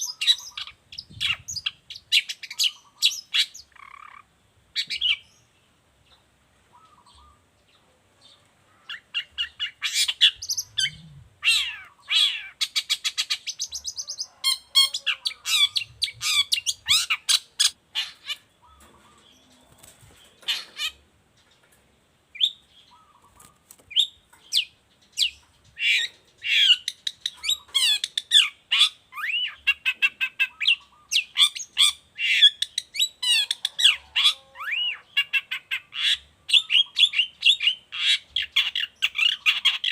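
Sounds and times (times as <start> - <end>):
bird harsh chattering song: 0.0 - 21.7, 22.3 - 39.9.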